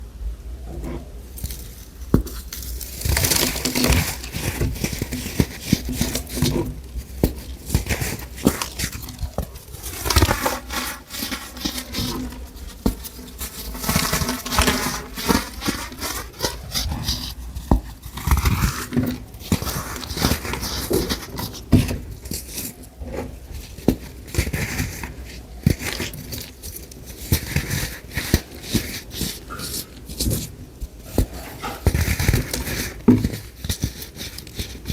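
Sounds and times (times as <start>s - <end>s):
block crunching by hand: 1.4s - 34.9s.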